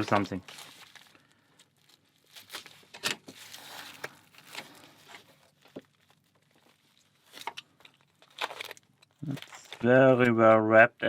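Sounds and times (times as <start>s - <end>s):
package wrapping rustling and tearing: 0.0s - 10.7s.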